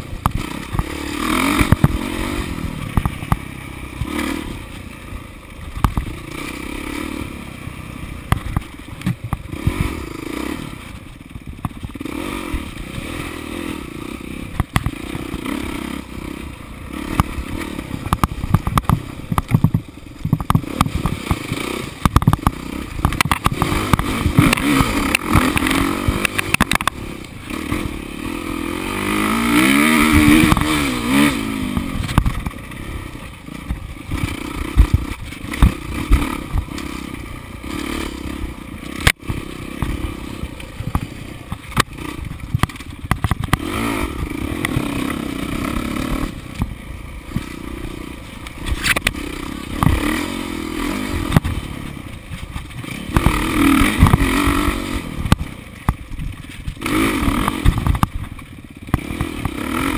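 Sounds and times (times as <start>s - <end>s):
bike rattling and clattering: 0.0s - 59.9s
motorcycle engine running hard: 0.0s - 59.9s.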